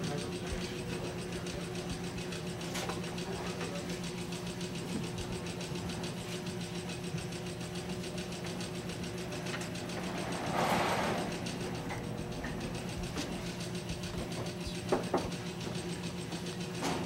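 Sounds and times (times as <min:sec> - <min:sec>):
motor humming and ticking: 0:00.0 - 0:17.0.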